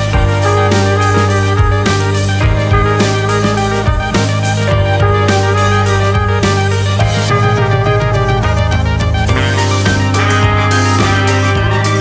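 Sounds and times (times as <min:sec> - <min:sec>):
instrumental music with light beat: 0:00.0 - 0:12.0.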